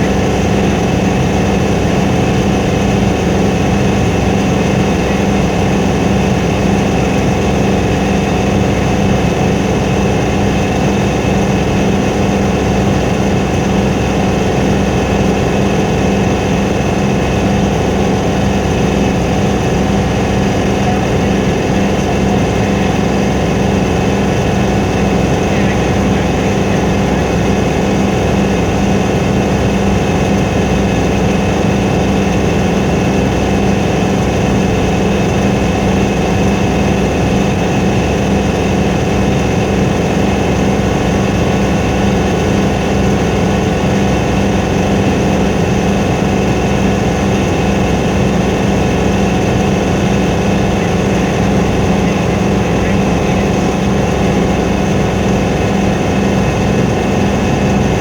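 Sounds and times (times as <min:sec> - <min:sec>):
helicopter engine and rotor hum: 0:00.0 - 0:58.0.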